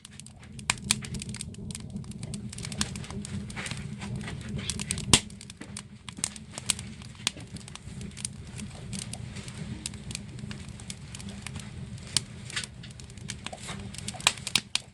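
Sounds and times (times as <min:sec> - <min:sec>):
steady low rumble: 0:00.0 - 0:14.9
wood fire crackling and popping: 0:00.0 - 0:14.9.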